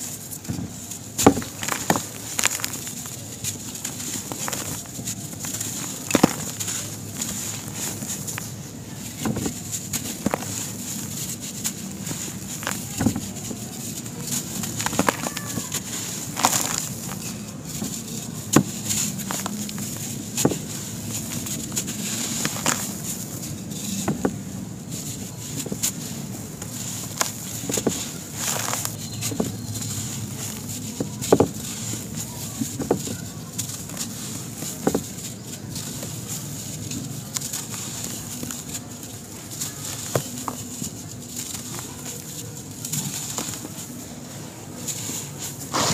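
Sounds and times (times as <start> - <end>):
sand hissing through fingers: 0.0 - 45.9
sand mix crunching by hand: 0.0 - 45.9.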